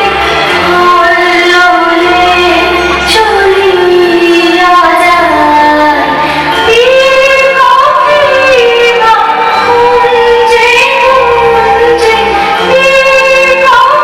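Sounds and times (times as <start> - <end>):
instrumental backing music: 0.0 - 14.0
woman singing a song: 0.0 - 14.0.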